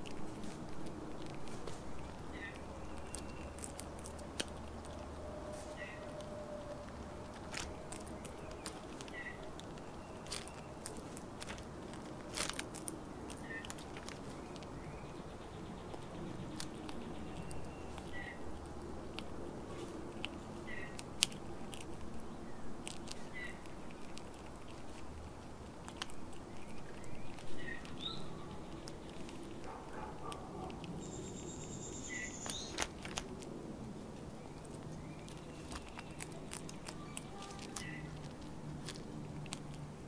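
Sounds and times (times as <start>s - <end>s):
squirrel cracking and chewing seeds: 0.0s - 40.0s.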